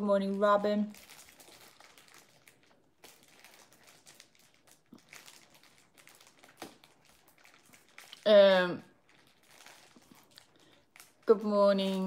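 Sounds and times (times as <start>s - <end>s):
food wrapper crinkling: 0.2s - 12.0s.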